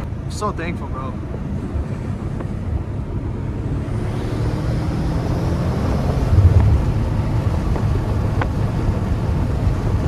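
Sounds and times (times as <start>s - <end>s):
car engine running: 0.0s - 10.0s
road and wind noise: 0.0s - 10.0s.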